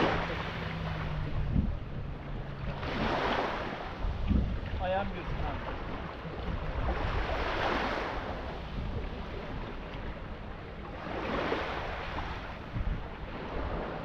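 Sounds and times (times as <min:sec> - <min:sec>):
sea water washing: 0:00.0 - 0:14.0
wind buffeting microphone: 0:00.0 - 0:14.0.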